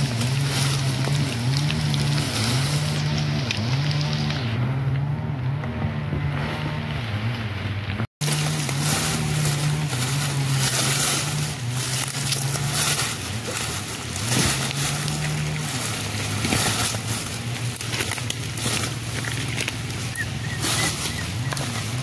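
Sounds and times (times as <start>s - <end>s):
crunching: 0.0s - 5.1s, 6.2s - 22.0s
rustling in dry leaves: 0.0s - 22.0s.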